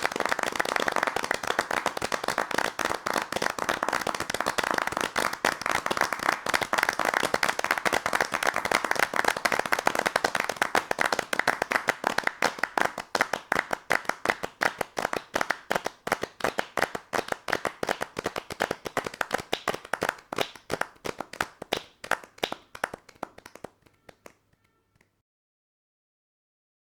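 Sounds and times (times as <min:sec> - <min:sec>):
large crowd clapping: 0:00.0 - 0:25.1.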